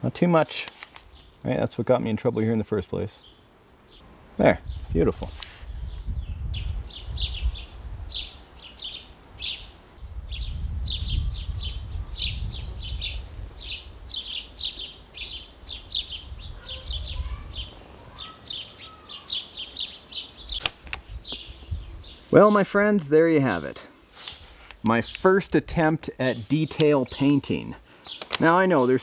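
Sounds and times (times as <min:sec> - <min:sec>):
small birds chirping: 0:00.2 - 0:29.0.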